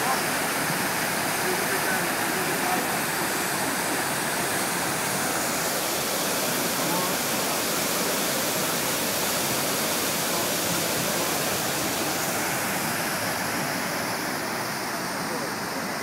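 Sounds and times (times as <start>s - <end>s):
waterfall pouring: 0.0s - 16.0s.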